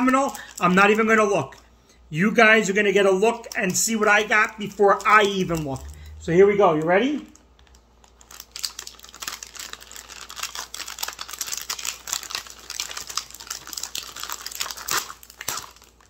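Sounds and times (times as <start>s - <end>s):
foil wrapper crinkling: 0.0s - 1.6s, 2.6s - 6.1s, 7.0s - 16.0s.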